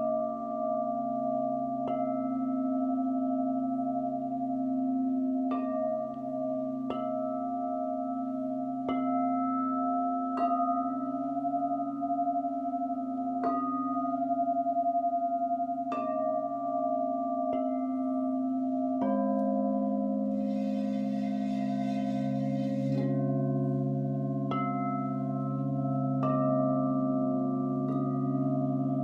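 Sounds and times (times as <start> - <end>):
crystal singing bowl ringing: 0.0 - 29.0.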